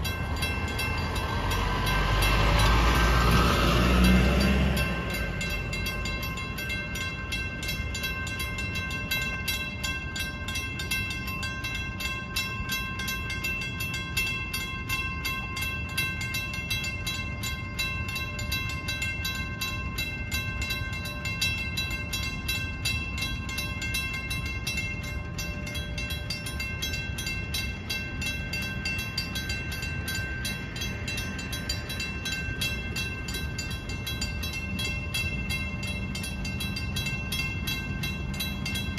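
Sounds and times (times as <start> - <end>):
railroad crossing bells ringing: 0.0 - 38.9
steady low rumble: 0.0 - 38.9.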